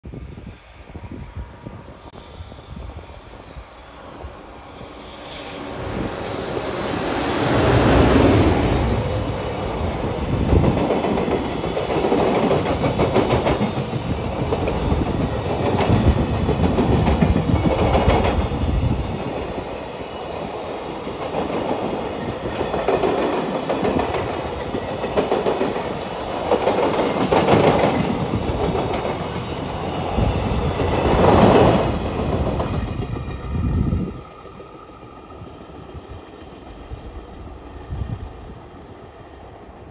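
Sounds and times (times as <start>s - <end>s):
electric locomotive passing: 0.0s - 39.9s.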